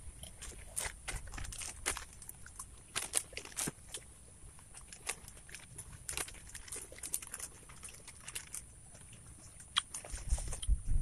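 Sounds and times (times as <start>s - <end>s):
raw leaves being chewed: 0.0s - 11.0s.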